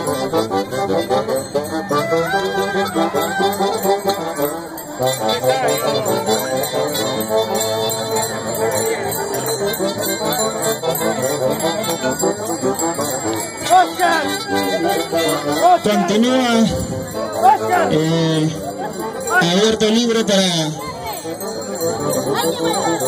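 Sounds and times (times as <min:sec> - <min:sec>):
band playing dance music: 0:00.0 - 0:23.0
bells jingling: 0:00.0 - 0:23.0.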